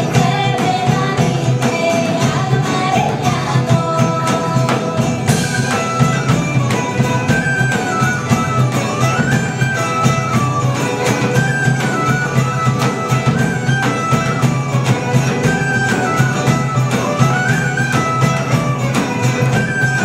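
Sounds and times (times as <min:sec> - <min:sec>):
acoustic guitar: 0:00.0 - 0:20.0
hand drum beat: 0:00.0 - 0:20.0
tambura: 0:00.0 - 0:20.0
violin: 0:00.0 - 0:20.0.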